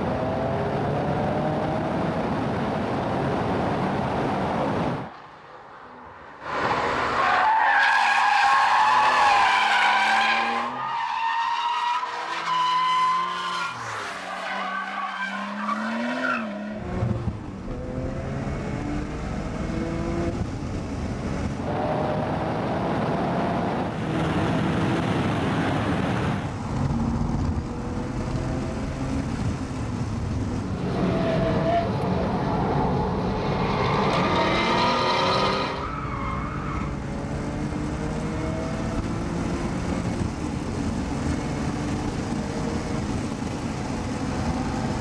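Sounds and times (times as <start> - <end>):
road and wind noise: 0.0 - 45.0.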